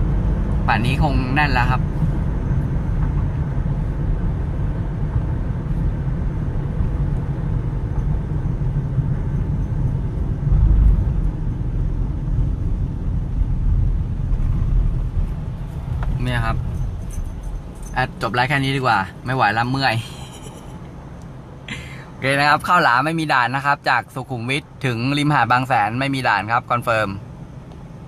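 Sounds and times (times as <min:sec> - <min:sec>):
road vehicles rumbling: 0:00.0 - 0:28.0.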